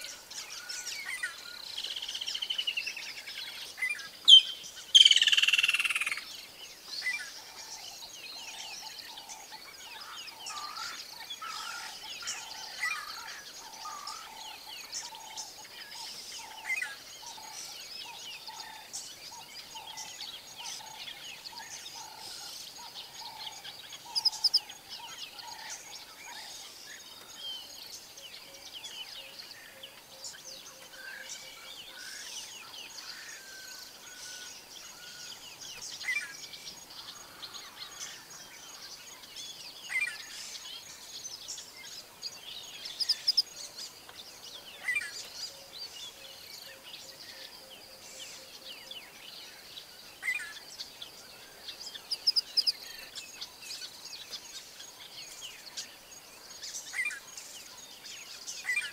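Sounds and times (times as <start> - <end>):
birds chirping and singing: 0.0 - 58.9.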